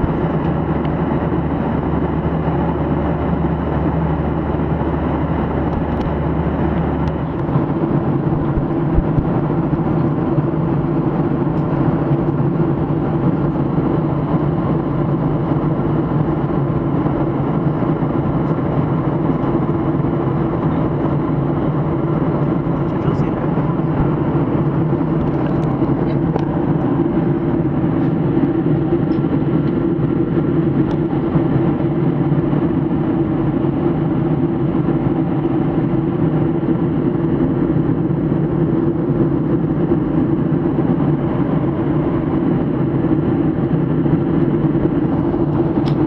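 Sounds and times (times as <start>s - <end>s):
jet engines droning: 0.0s - 46.0s.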